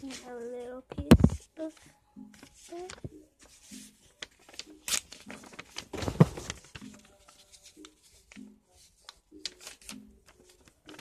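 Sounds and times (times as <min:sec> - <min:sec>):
paper rustling and tapping: 0:00.0 - 0:11.0.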